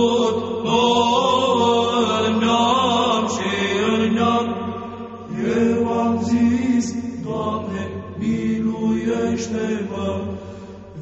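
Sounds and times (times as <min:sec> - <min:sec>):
held vocal drone: 0:00.0 - 0:11.0.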